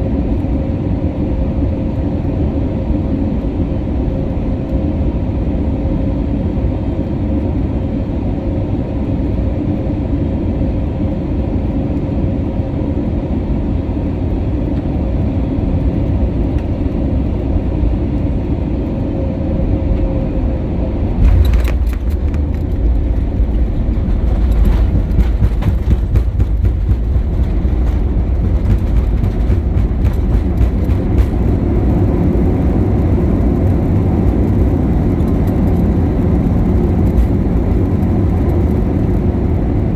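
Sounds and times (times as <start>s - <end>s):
engine and airflow hum: 0.0s - 39.9s
wheels rumbling on runway: 0.0s - 39.9s.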